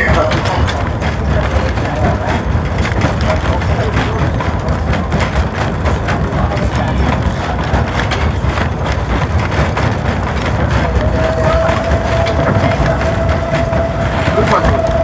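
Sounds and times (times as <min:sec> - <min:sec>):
train clattering and rattling: 0:00.0 - 0:15.0
train rumbling on rails: 0:00.0 - 0:15.0.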